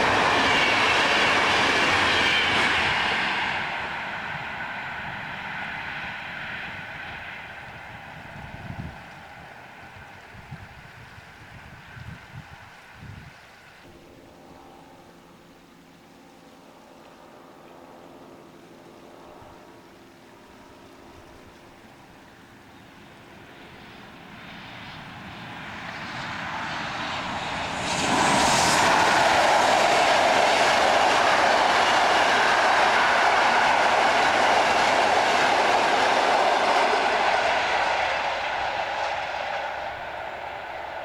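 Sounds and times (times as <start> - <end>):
train passing on rails: 0.0 - 41.0.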